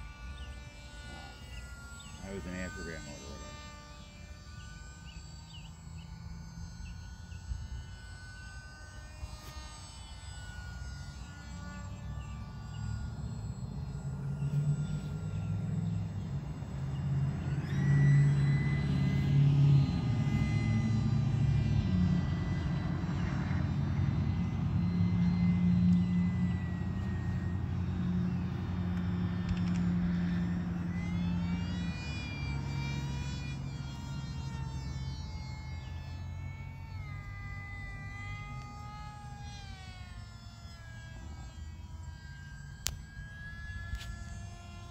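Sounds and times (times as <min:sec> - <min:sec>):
rc airplane motor droning: 0:00.0 - 0:44.9
thin whine drifting in pitch: 0:00.0 - 0:44.9.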